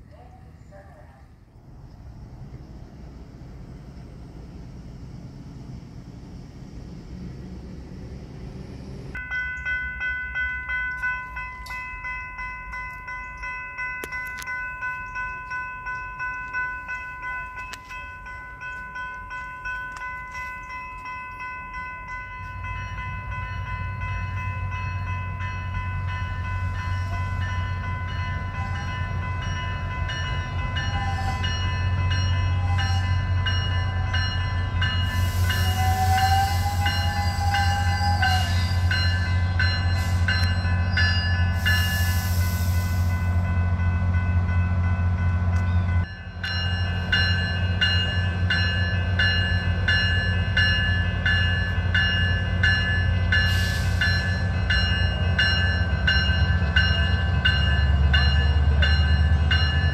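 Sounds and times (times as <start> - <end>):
diesel locomotive rumble: 0.0 - 59.9
train wheel noise and squeals: 0.0 - 59.9
railroad crossing bell ringing: 9.1 - 59.9.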